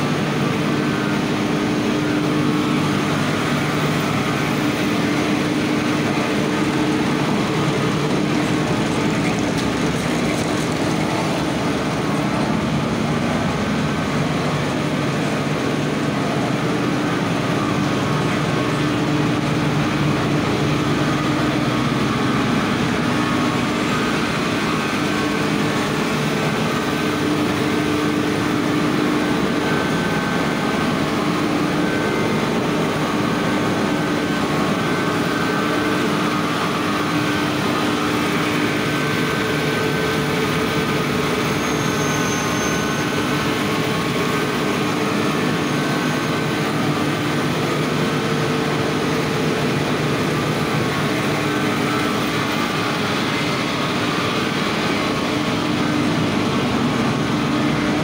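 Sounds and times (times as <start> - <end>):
machines running with hum and whine: 0.0 - 58.0.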